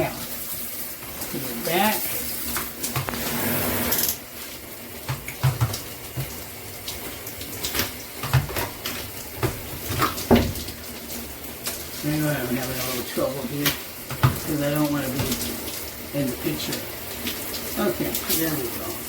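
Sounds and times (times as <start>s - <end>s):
shower head spraying water: 0.0s - 19.0s.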